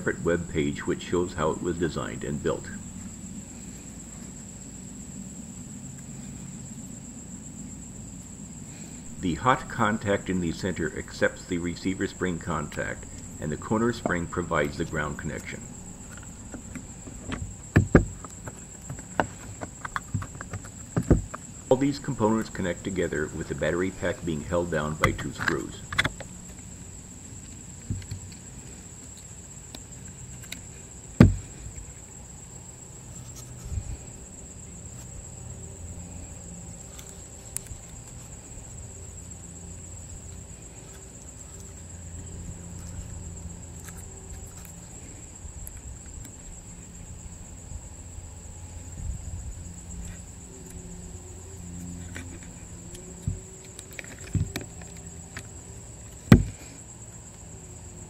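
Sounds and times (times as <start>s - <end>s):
low hum: 0.0s - 57.1s
insect trill: 0.0s - 58.0s.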